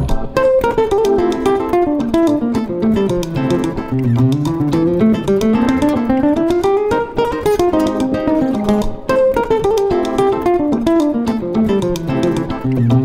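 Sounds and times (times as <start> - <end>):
acoustic guitar plucked melody: 0.0 - 13.0.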